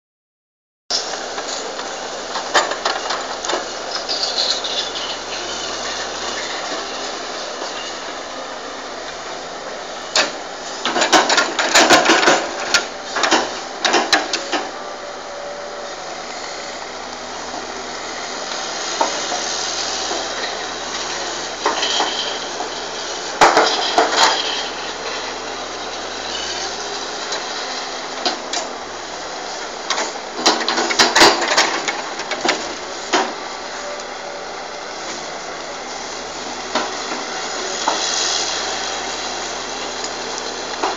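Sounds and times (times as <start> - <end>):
diesel engine running: 1.0 - 40.9.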